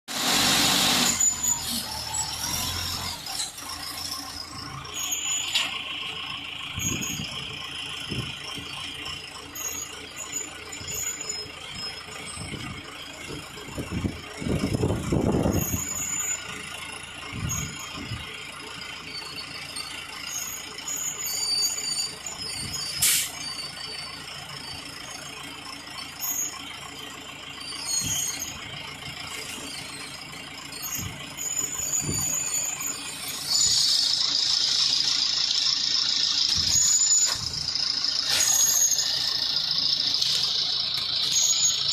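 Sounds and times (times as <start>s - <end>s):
concrete mixer engine running: 0.1s - 41.9s
high-pitched squeals: 0.2s - 16.5s, 19.1s - 25.3s, 27.5s - 41.9s.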